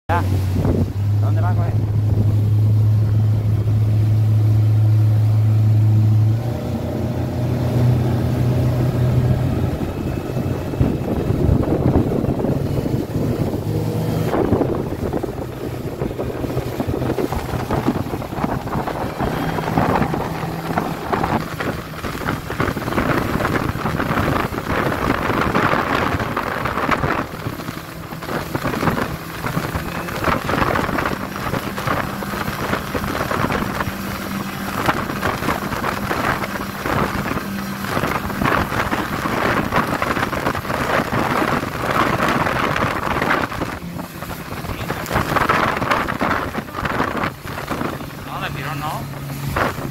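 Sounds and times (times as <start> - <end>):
water and wind rushing: 0.0 - 49.9
outboard motor humming: 0.1 - 49.9.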